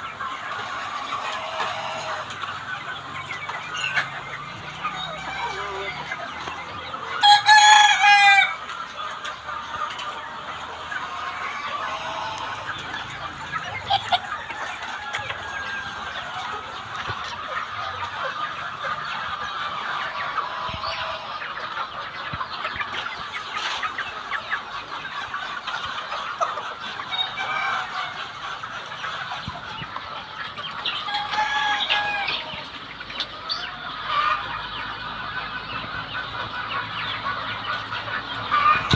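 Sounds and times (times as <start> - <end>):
chickens clucking and calling: 0.0 - 38.9.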